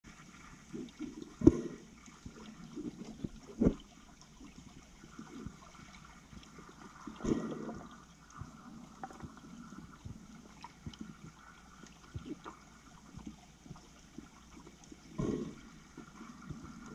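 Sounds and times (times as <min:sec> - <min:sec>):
underwater water gurgling and sloshing: 0:00.0 - 0:16.9.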